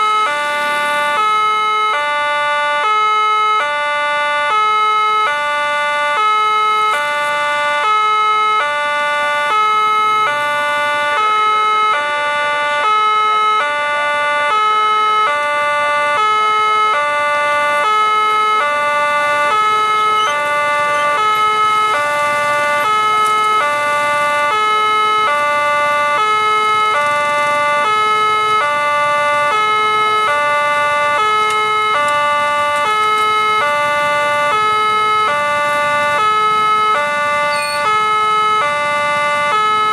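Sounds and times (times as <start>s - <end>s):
level crossing warning alarm: 0.0s - 39.9s.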